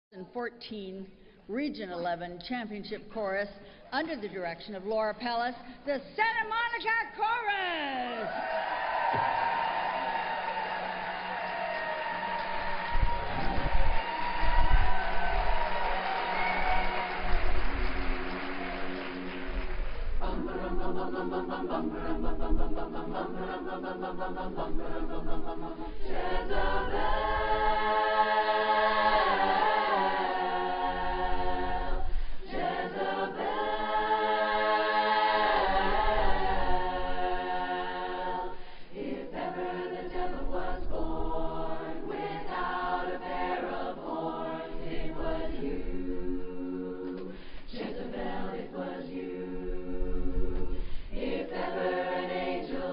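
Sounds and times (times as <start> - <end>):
women's chorus singing a cappella: 8.5 - 52.9.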